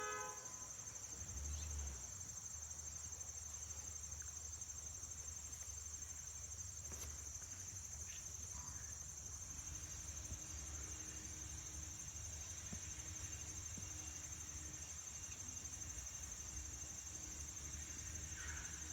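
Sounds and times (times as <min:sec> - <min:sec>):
crickets trilling: 0:00.0 - 0:18.9.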